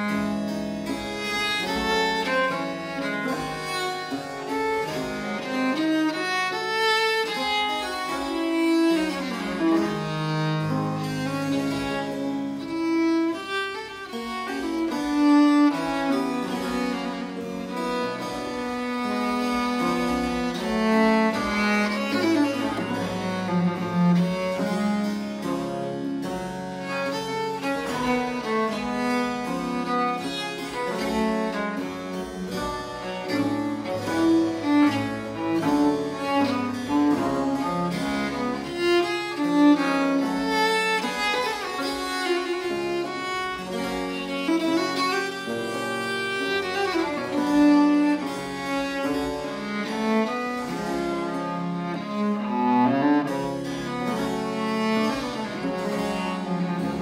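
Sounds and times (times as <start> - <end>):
bowed viola da gamba melody: 0.0 - 57.0
harpsichord: 0.0 - 57.0
lute: 0.0 - 57.0.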